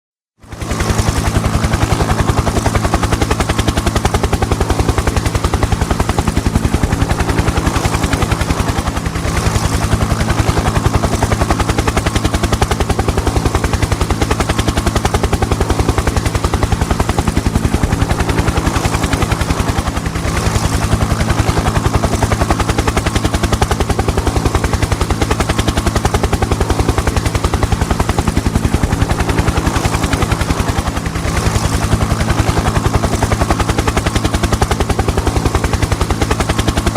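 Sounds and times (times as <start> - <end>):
helicopter rotor chopping: 0.4 - 36.9.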